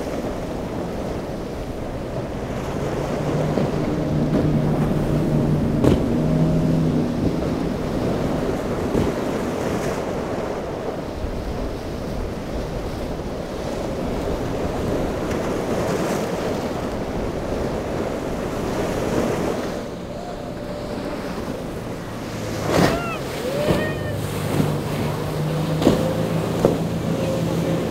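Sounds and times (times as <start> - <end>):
outboard engines droning: 0.0 - 27.9
waves breaking: 0.0 - 27.9
wind buffeting microphone: 0.0 - 27.9.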